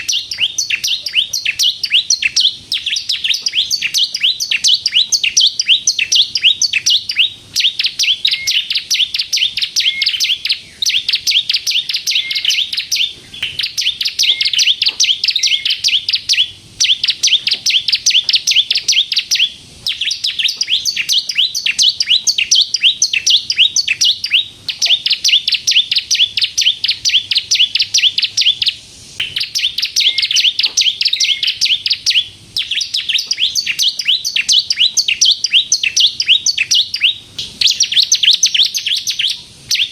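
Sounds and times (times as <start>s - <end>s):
bird singing fast high chirps: 0.0s - 39.9s.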